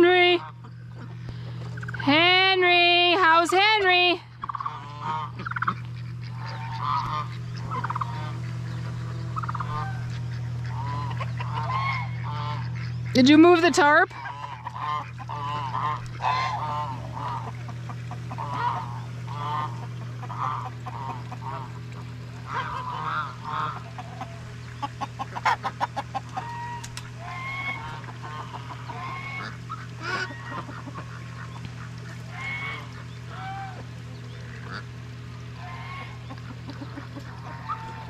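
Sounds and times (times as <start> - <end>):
geese honking: 0.0 - 38.0.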